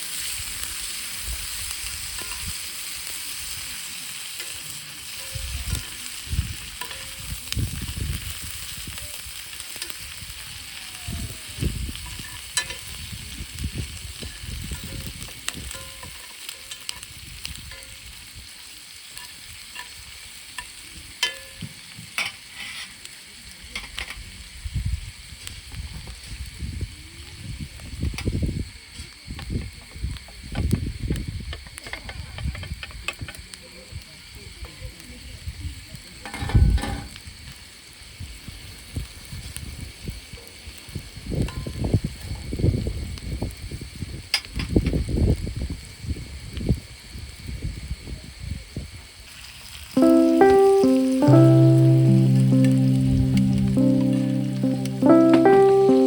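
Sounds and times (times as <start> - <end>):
food sizzling in a pan: 0.0 - 29.7, 33.4 - 56.0.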